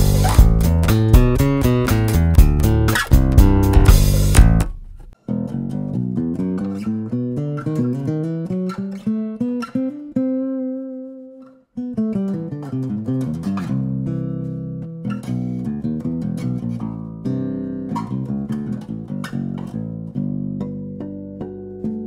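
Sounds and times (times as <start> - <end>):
acoustic bass guitar plucked: 0.0 - 22.0.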